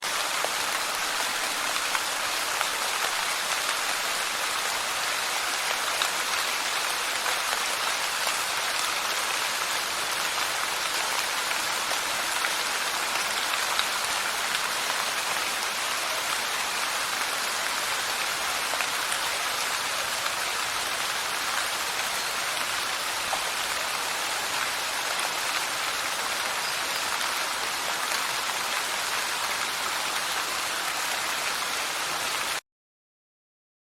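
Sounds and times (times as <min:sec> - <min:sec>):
light rain falling: 0:00.0 - 0:32.6.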